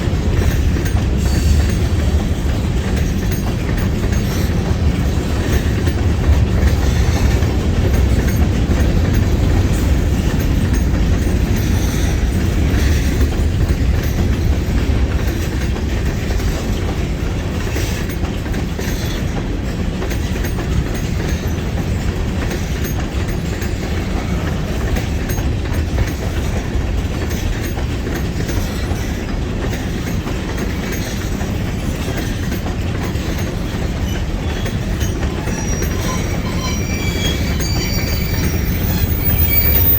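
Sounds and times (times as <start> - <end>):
train rumbling past: 0.0 - 39.9
wheels clicking over rail joints: 0.0 - 39.9.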